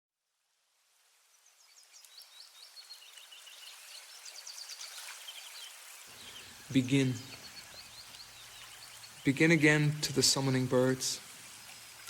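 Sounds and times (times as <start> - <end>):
river flowing: 0.7 - 12.0
birds chirping: 1.3 - 12.0.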